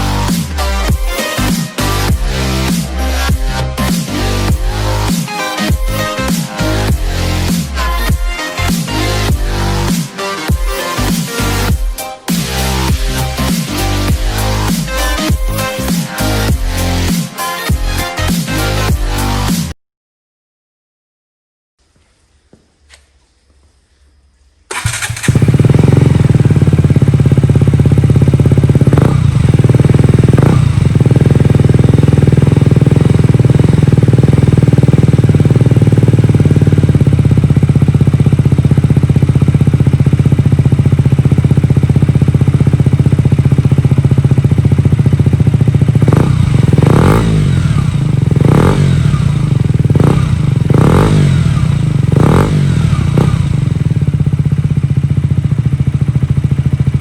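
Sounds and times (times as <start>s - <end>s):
motorcycle engine idling loudly: 0.0s - 19.5s, 24.7s - 57.0s.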